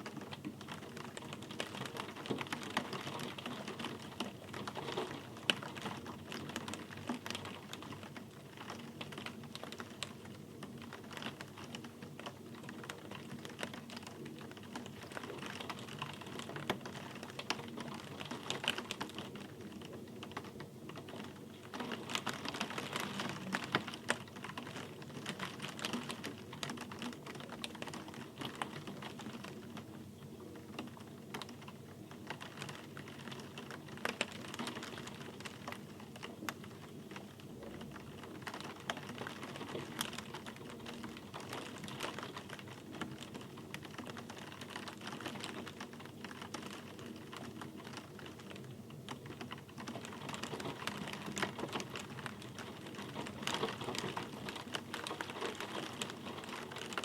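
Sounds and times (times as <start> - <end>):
rain on a hard surface: 0.0 - 57.0.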